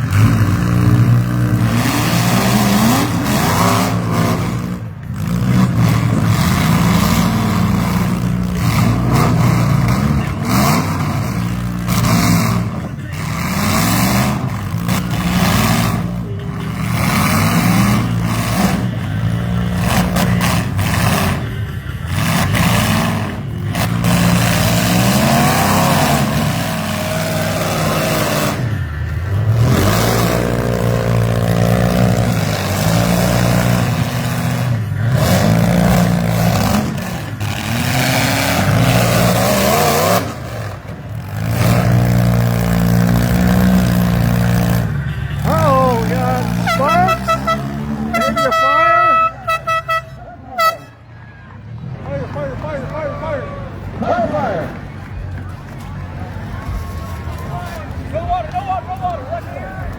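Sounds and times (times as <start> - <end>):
engines revving hard: 0.0 - 59.9.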